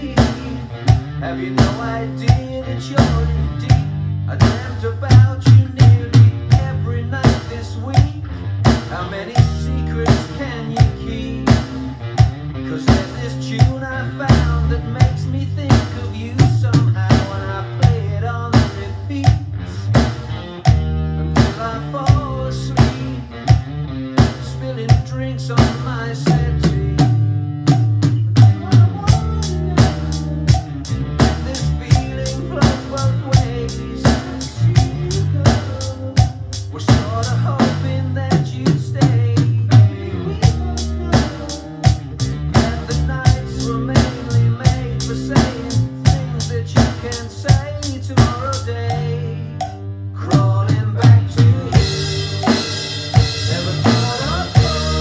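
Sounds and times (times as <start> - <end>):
electronic drum kit: 0.0 - 55.0
rock backing track: 0.0 - 55.0.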